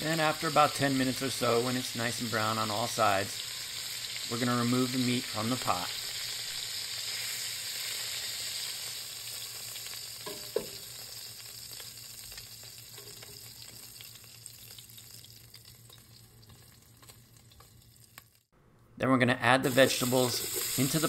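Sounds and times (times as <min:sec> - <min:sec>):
oil sizzling in a pot: 0:00.0 - 0:18.5, 0:19.7 - 0:21.0.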